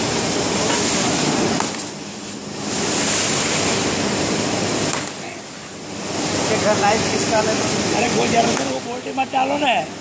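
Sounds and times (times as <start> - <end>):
paper mill machinery rushing: 0.0 - 10.0.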